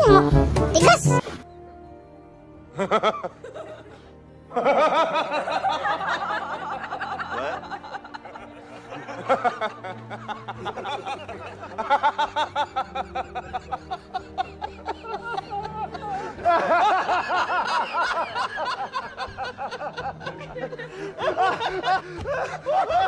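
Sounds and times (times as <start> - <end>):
background music: 0.0 - 23.0
men laughing heartily: 2.7 - 23.0.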